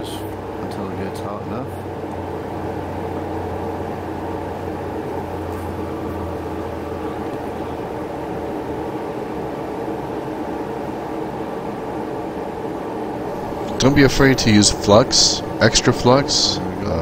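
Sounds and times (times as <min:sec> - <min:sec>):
low hum: 0:00.0 - 0:17.0
street traffic rumble: 0:00.0 - 0:17.0.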